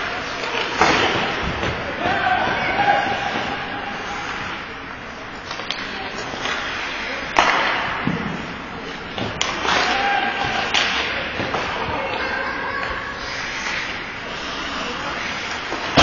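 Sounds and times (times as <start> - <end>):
hockey sticks and puck clacking: 0.0 - 2.2, 5.3 - 16.0
players' voices: 0.0 - 16.0.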